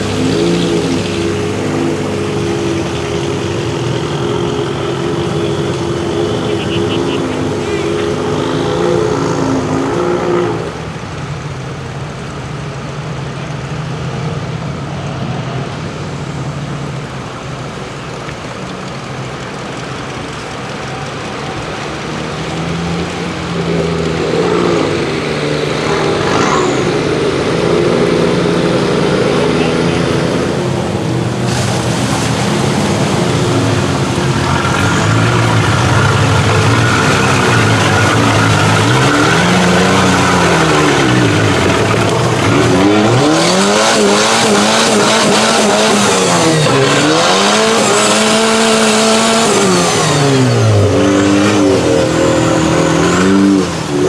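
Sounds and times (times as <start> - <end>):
off-road vehicle engine revving: 0.0 - 11.2, 21.2 - 54.0.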